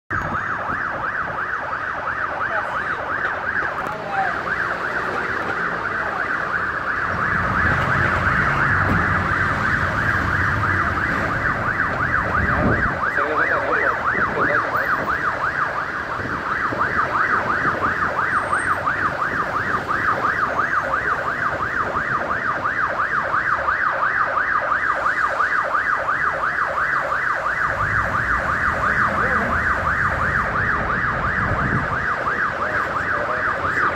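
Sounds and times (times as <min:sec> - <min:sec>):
motorcycle alarm wailing: 0:00.1 - 0:33.9.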